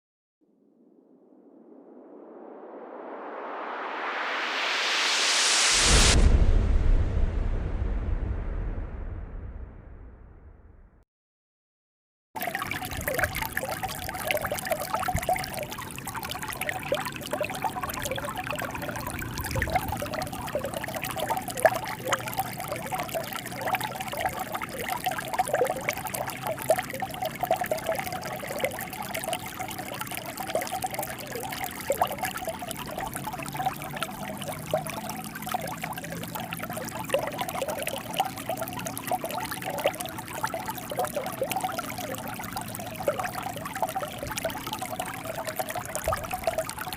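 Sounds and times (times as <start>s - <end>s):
water flowing and gurgling: 1.5s - 10.9s, 12.4s - 46.9s.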